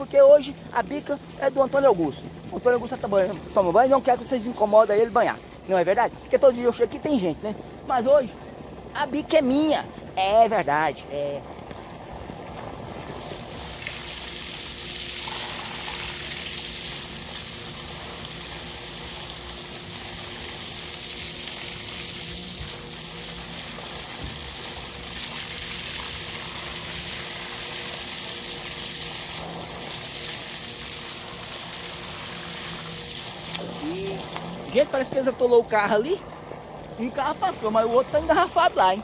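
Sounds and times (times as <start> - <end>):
water pouring from a pipe: 0.0 - 39.0
water splashing: 0.0 - 39.0.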